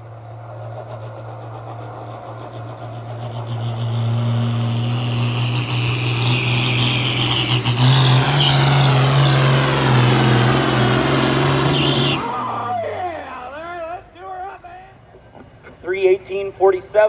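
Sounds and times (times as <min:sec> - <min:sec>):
engine at full throttle: 0:00.0 - 0:14.9.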